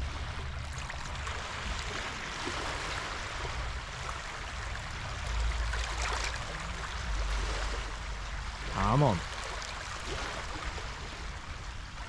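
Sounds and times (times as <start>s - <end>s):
low rumble on microphone: 0.0s - 12.0s
small waves over shallows: 0.0s - 12.0s.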